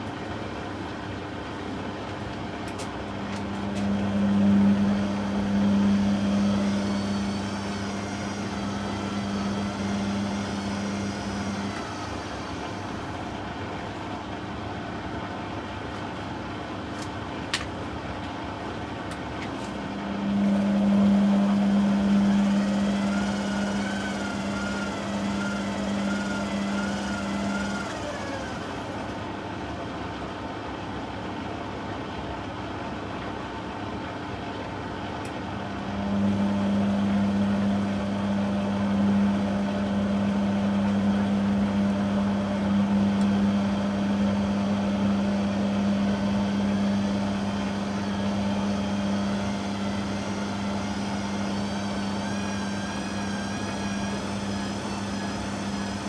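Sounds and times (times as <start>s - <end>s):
steady low hum: 0.0s - 56.0s
washing machine motor whine: 0.0s - 56.0s.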